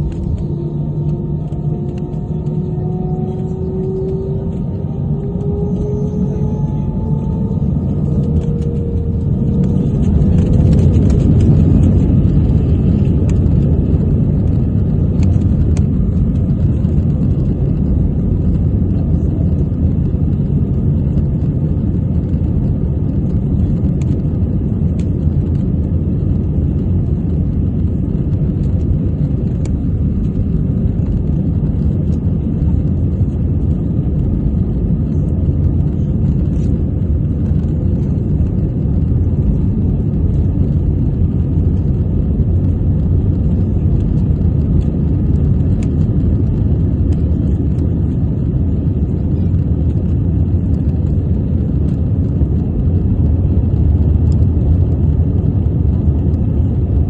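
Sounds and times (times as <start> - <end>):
jet engines and airflow rumble: 0.0 - 57.0.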